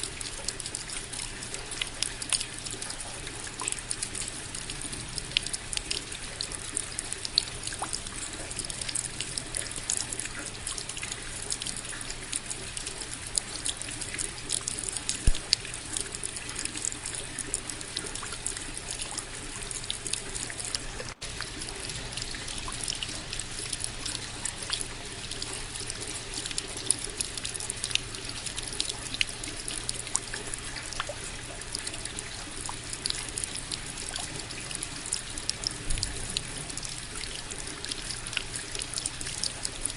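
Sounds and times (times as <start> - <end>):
raindrops striking close by: 0.0 - 39.9
steady rainfall: 0.0 - 39.9.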